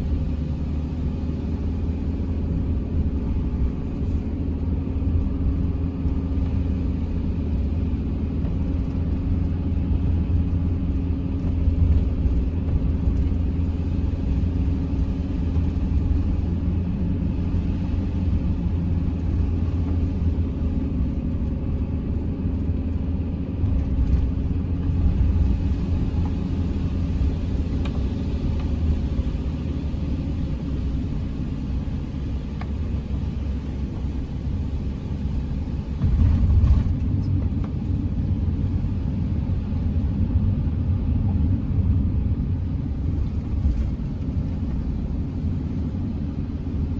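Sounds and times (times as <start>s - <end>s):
van driving on road: 0.0s - 46.9s.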